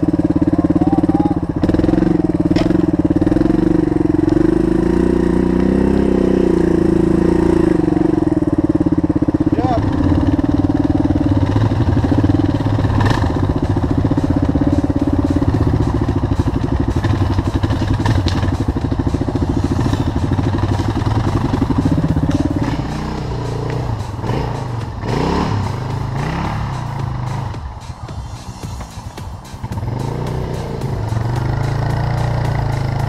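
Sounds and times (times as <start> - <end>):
motorcycle engine running and revving: 0.0 - 33.0.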